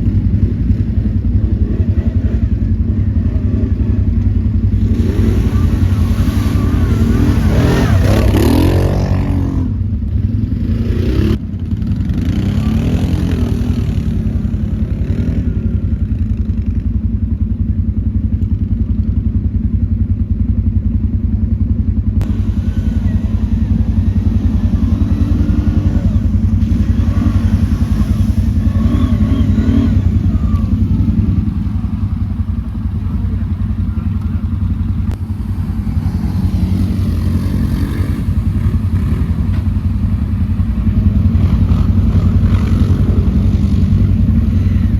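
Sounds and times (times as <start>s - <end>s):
quad bike engine running: 0.0s - 44.9s.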